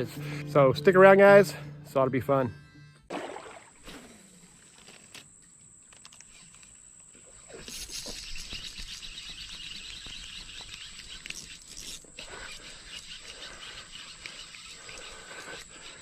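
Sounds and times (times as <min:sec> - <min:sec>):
insects buzzing and chirping: 0:03.1 - 0:16.0.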